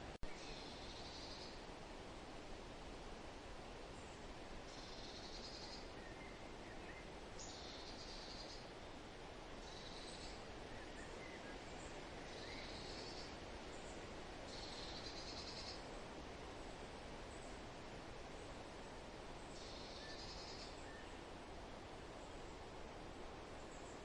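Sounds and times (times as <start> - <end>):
wind hiss: 0.0 - 24.0.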